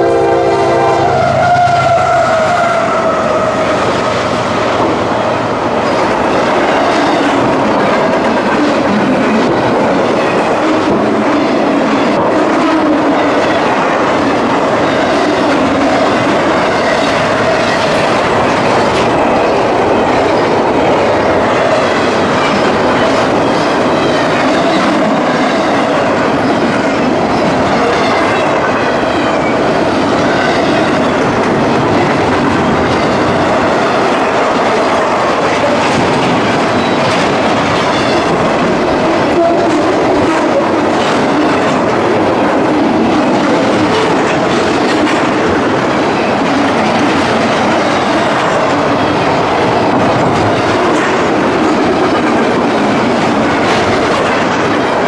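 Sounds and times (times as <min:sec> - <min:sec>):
train wheels clattering over rails: 0:03.4 - 0:55.0.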